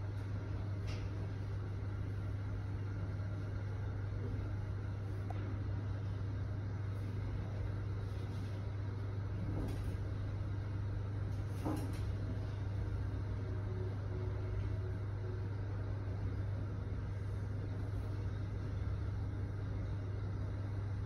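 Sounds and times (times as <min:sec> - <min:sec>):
elevator car hum: 0:00.0 - 0:21.0.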